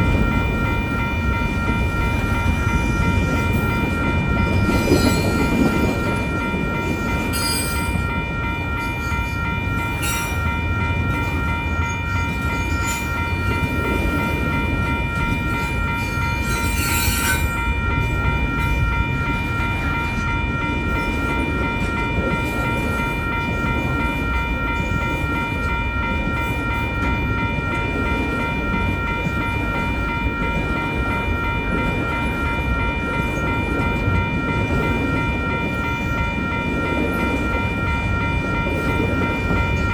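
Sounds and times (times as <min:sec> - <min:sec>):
crossing warning bell ringing: 0:00.0 - 0:39.9
freight train wheels rumbling on rail: 0:00.0 - 0:39.9
train clanks and squeals: 0:00.0 - 0:39.9.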